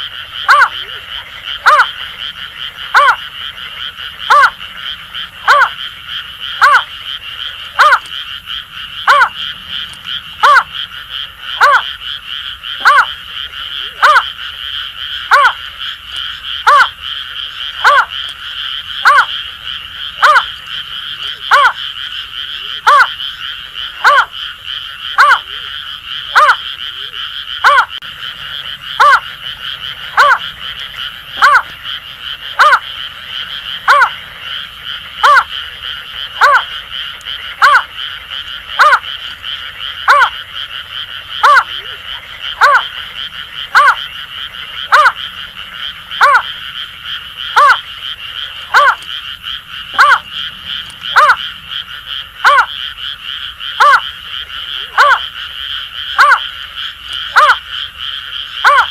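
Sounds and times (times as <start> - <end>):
frogs pulsing chorus: 0.0 - 58.9.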